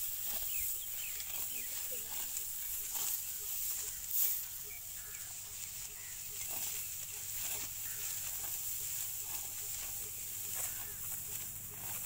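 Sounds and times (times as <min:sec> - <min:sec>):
sickle cutting wheat stalks: 0:00.0 - 0:12.0.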